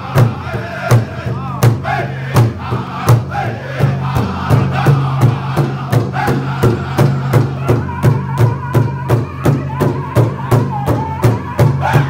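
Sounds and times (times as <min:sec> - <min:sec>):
large drum beating: 0:00.0 - 0:12.0
men singing in high voices: 0:00.0 - 0:12.0.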